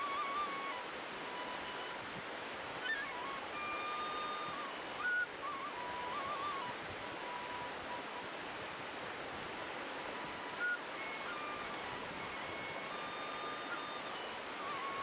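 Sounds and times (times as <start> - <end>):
flute playing slow melody: 0.0 - 15.0
river rapids rushing: 0.0 - 15.0.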